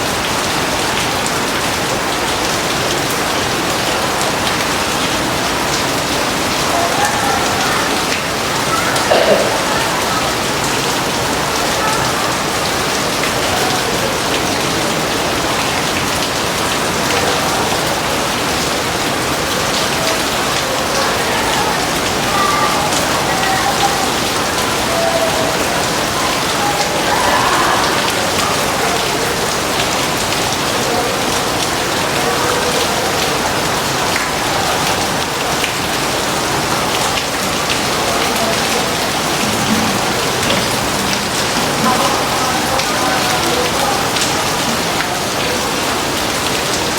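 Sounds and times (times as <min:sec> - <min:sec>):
heavy rain splashing: 0:00.0 - 0:46.9.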